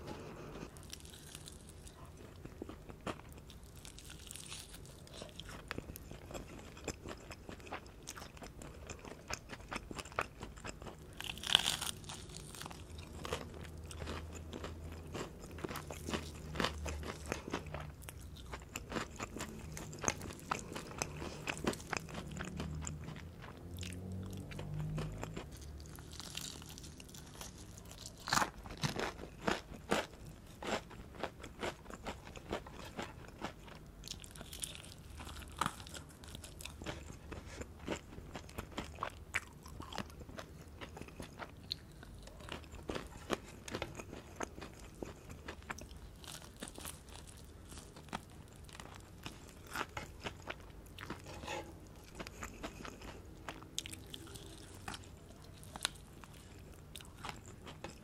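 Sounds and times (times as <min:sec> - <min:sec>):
chewing crispy fried chicken: 0:00.0 - 0:58.0.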